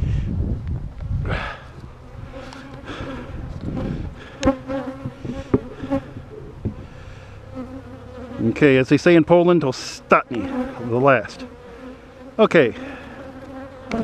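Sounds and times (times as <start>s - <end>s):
honeybees buzzing: 1.7s - 14.0s.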